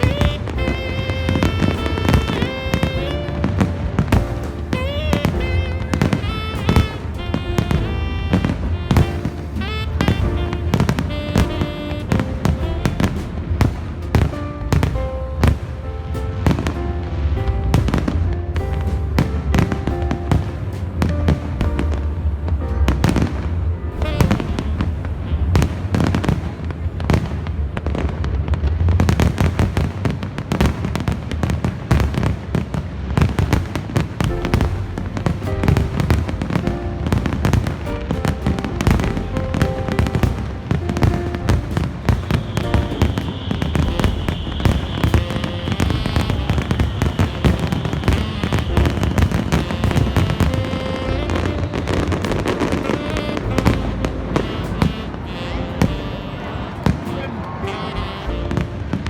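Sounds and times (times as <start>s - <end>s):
fireworks bangs and crackling: 0.0s - 59.0s
music: 0.0s - 59.0s.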